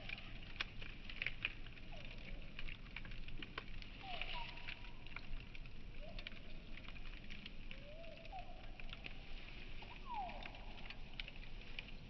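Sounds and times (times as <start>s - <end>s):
slowed campfire crackling: 0.0s - 12.0s.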